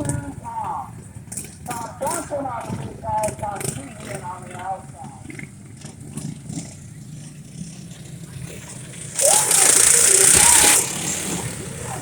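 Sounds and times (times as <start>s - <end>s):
racing lawnmower engines: 0.0s - 12.0s.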